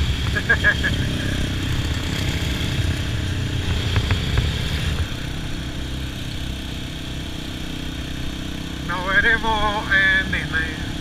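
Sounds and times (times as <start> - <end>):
motorcycle engines idling: 0.0 - 11.0.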